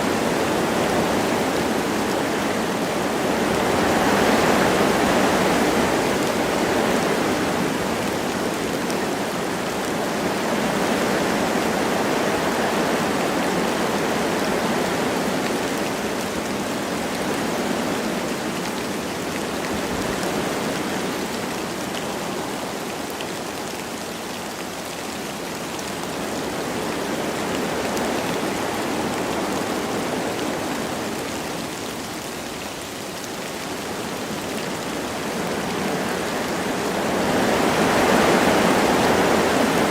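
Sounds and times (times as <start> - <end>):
light rain pattering: 0.0 - 39.9
wind rushing through trees: 0.0 - 39.9.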